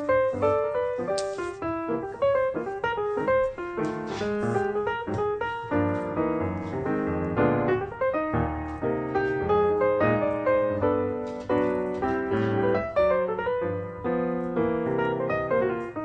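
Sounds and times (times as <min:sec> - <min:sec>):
lively piano music: 0:00.0 - 0:16.0.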